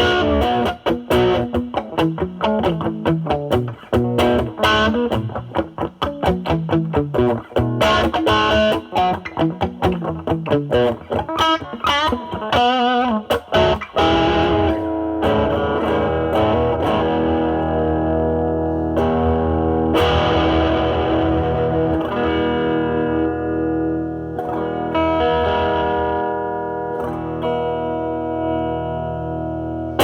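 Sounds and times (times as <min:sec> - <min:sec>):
overdriven electric guitar chords: 0:00.0 - 0:30.0.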